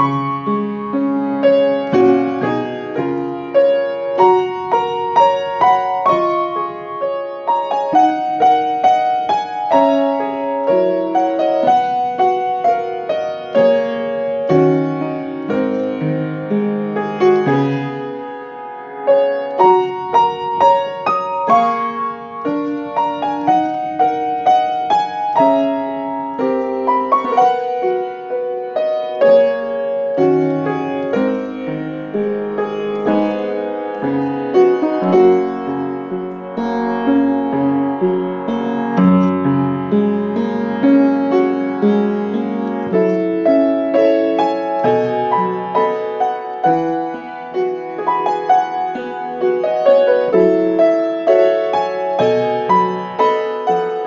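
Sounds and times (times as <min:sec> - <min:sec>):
solo piano piece: 0:00.0 - 0:54.0.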